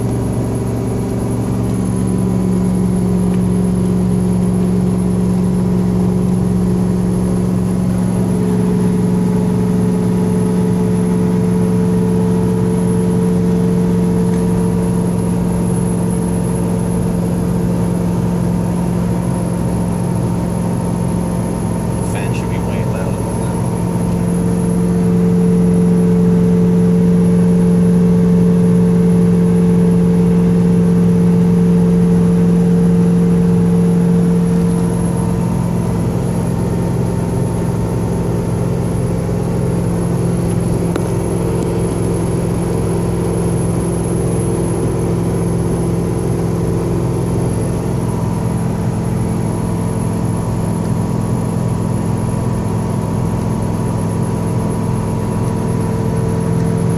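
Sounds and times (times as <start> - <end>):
vehicle road noise: 0.0 - 56.9.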